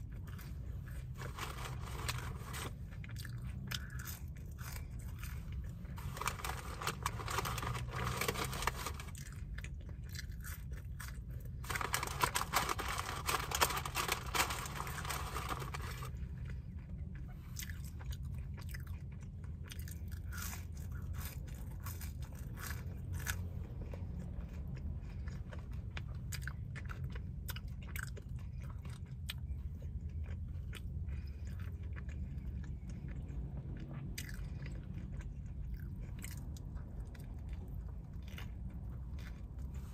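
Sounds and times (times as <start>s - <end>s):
close chewing: 0.0s - 39.9s.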